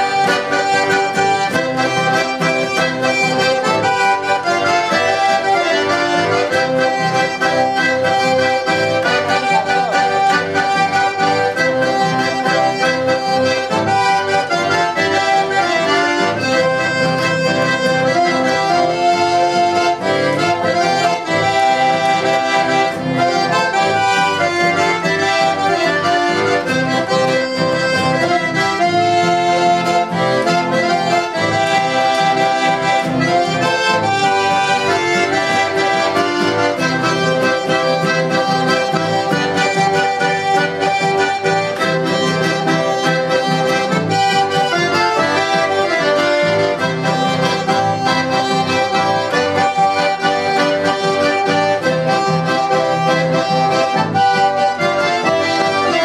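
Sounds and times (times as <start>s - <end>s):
button accordion playing: 0.0s - 56.0s.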